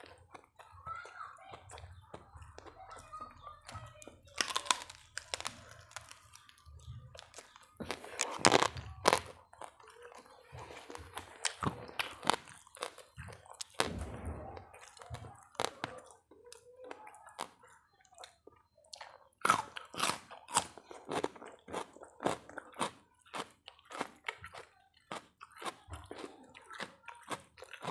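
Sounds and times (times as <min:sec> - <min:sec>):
person chewing crispy food: 0:00.0 - 0:27.9.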